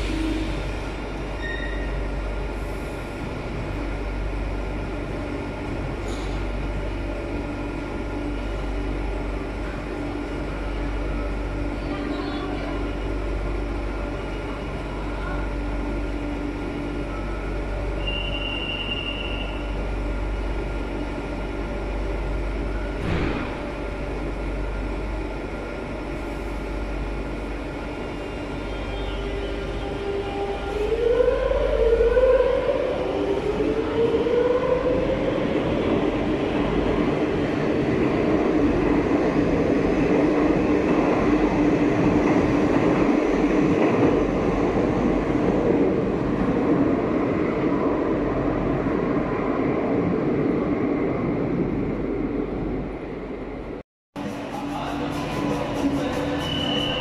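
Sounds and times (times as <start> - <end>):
train cars running noise: 0.0 - 57.0.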